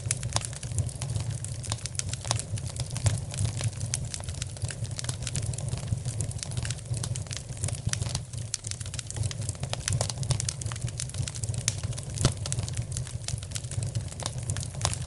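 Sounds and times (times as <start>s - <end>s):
fire crackling and popping: 0.0s - 15.0s
low rumble of fire: 0.0s - 15.0s.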